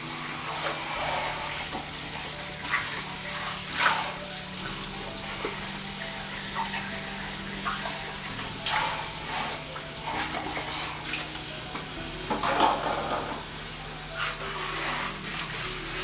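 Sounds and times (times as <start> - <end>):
water splashing: 0.0 - 15.6
sponge scrubbing a pan: 0.0 - 16.0.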